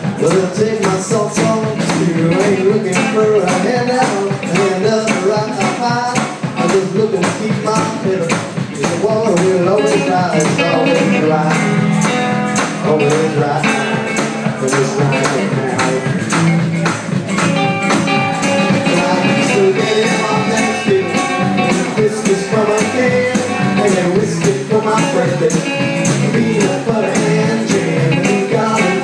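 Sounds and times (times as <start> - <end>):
drums beat: 0.0 - 29.0
wavering guitar line: 0.0 - 29.0.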